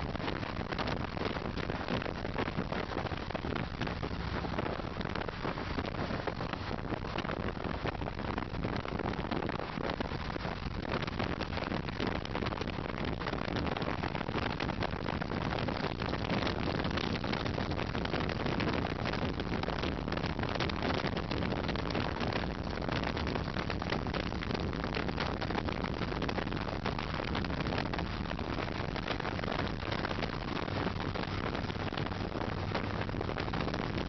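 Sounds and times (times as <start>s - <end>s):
wind and road noise: 0.0s - 34.0s.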